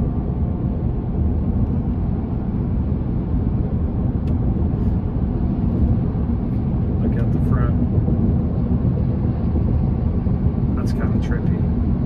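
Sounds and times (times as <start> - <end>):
road and wind noise in cab: 0.0 - 12.0.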